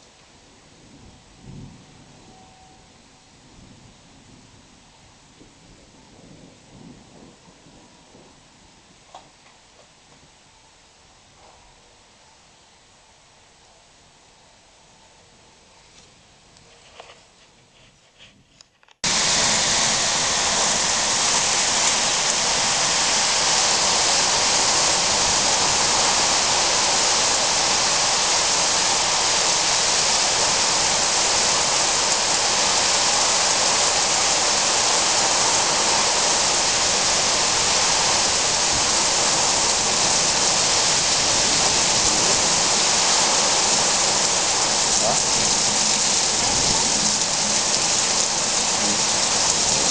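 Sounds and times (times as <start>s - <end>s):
heavy rain falling: 0.0s - 10.0s, 19.0s - 49.9s.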